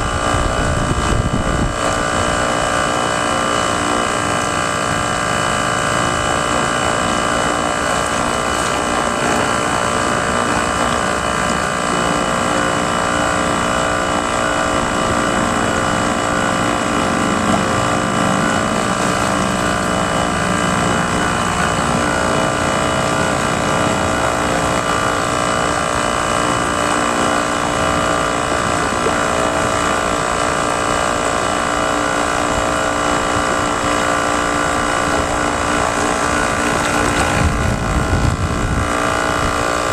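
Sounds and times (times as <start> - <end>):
lower hum: 0.0 - 39.9
model boat motors whining: 0.0 - 39.9.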